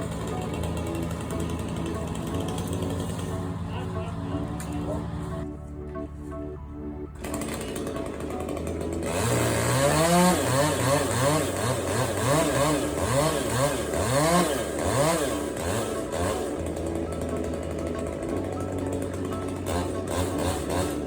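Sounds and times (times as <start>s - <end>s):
chainsaw revving: 0.0s - 5.6s, 7.1s - 21.0s.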